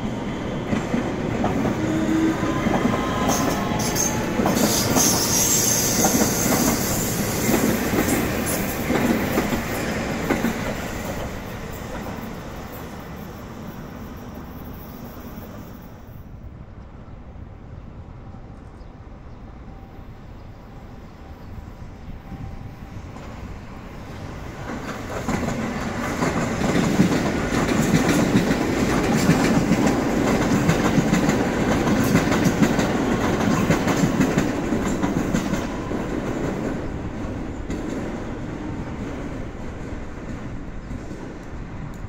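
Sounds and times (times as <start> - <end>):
electric train passing: 0.0 - 42.0.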